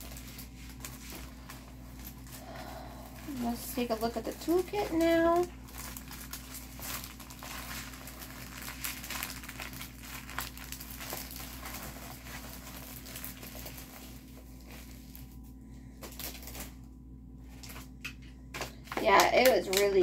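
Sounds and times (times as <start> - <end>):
low steady hum: 0.0 - 20.0
packaging crinkling: 0.0 - 20.0.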